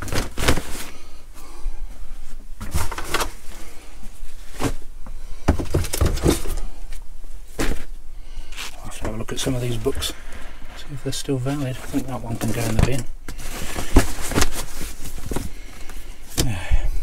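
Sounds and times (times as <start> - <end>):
fabric rustling: 0.0 - 5.3, 6.0 - 16.3.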